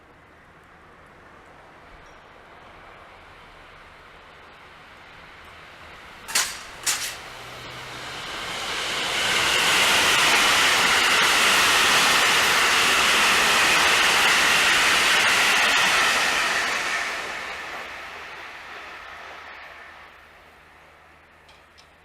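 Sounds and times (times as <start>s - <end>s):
electric train passing: 0.1s - 22.0s.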